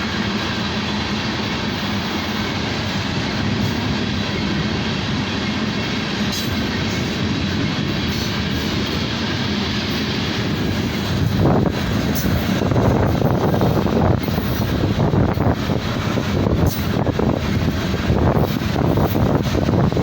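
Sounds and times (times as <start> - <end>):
train wheels rumbling on rail: 0.0 - 20.0
sharp rail clicks: 0.2 - 20.0.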